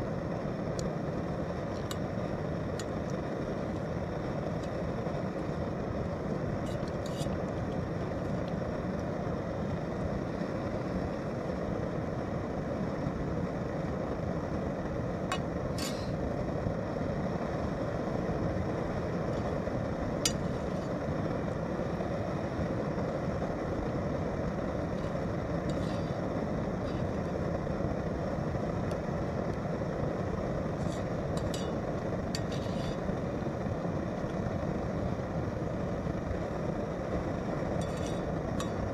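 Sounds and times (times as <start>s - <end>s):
camping stove burning: 0.0s - 38.9s.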